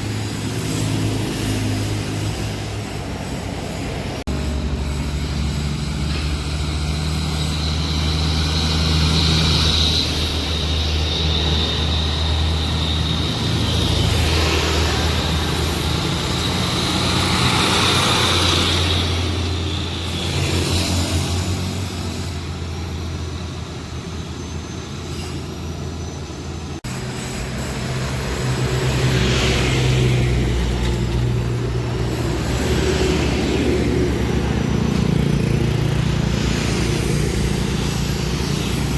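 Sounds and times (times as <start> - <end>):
truck diesel engines pulling: 0.0 - 38.9.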